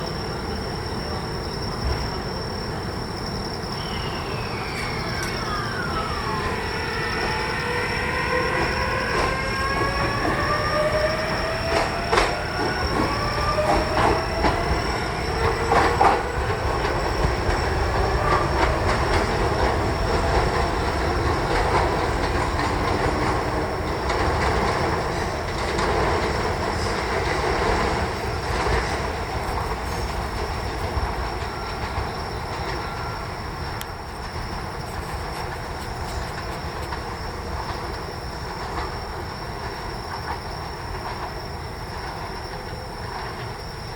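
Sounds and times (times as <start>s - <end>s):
train motor whine: 3.8s - 43.9s
wheels clicking over rail joints: 8.5s - 43.9s.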